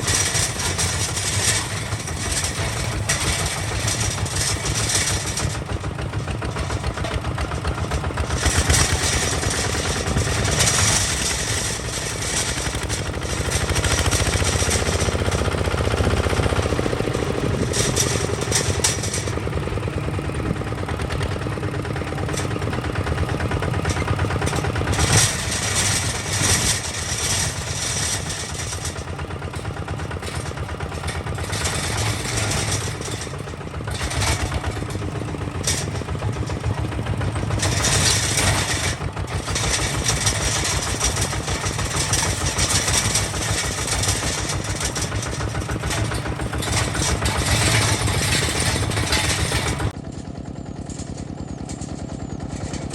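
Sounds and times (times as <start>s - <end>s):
diesel walking tractor chugging: 0.0s - 52.9s.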